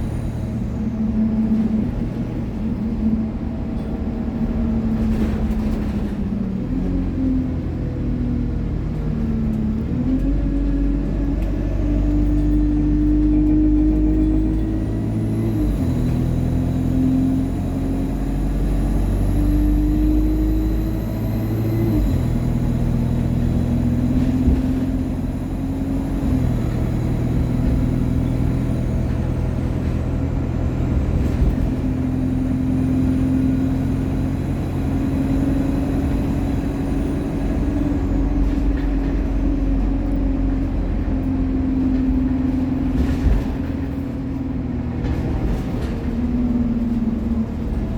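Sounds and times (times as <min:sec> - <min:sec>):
bus drivetrain changing gear: 0:00.0 - 0:47.9.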